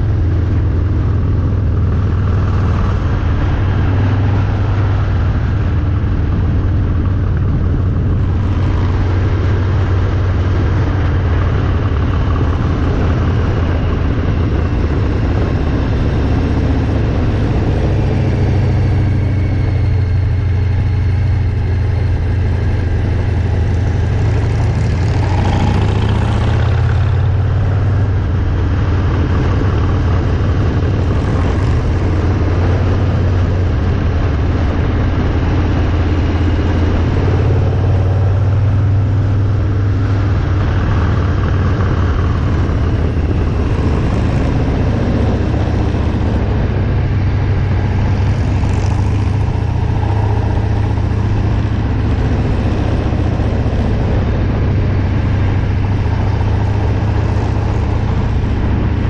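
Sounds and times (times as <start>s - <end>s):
motorcycle engine drone: 0.0s - 59.0s.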